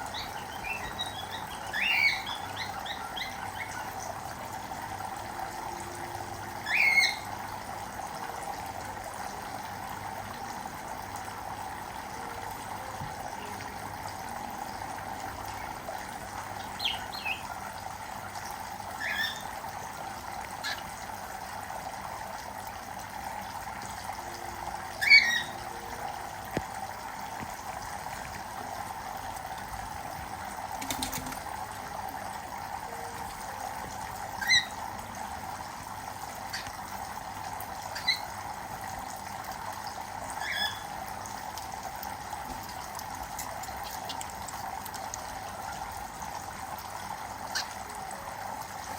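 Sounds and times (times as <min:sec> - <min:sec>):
running water trickling: 0:00.0 - 0:48.9.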